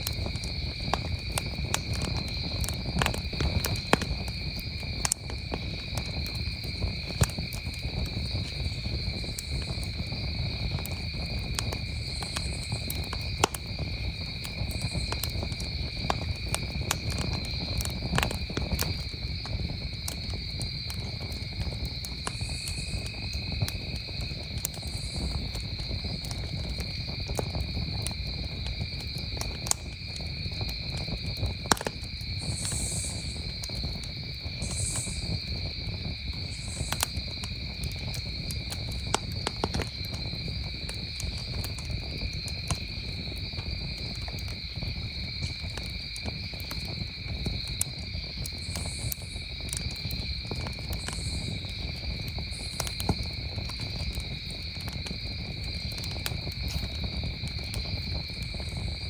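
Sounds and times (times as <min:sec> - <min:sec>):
campfire crackling: 0:00.0 - 0:59.0
crickets chirring: 0:00.0 - 0:59.0.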